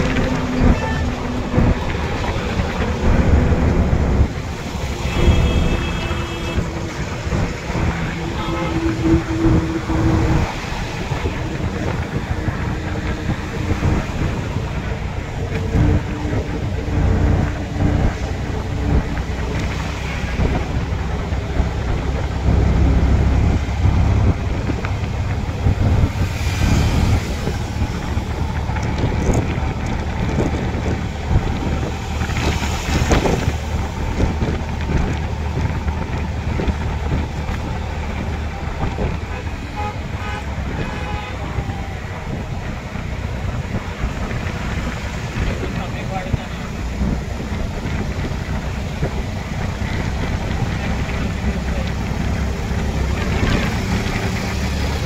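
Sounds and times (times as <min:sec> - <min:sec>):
road noise low rumble: 0:00.0 - 0:55.0
wind on microphone: 0:00.0 - 0:55.0.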